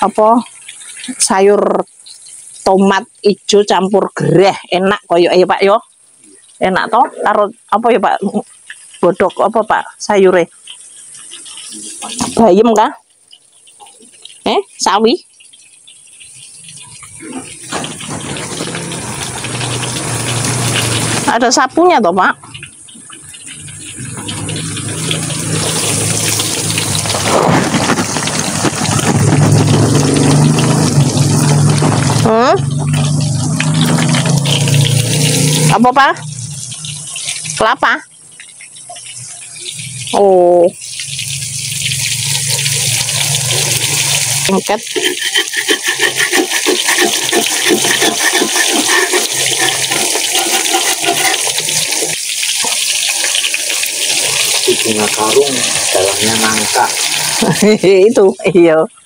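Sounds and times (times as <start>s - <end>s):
fritters sizzling in hot oil: 0.0s - 58.7s.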